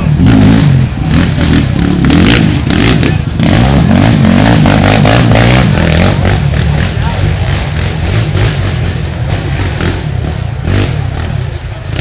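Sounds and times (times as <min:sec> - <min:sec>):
quad engines revving: 0:00.0 - 0:12.0.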